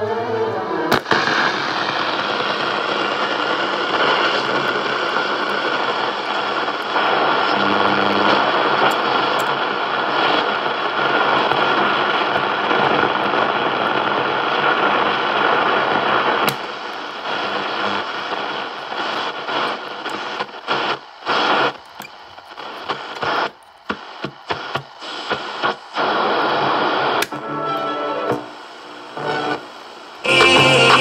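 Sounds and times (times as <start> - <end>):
radio static hiss: 0.9 - 31.0
snatches of radio stations: 0.9 - 31.0
music from radio: 1.0 - 21.8, 22.4 - 31.0.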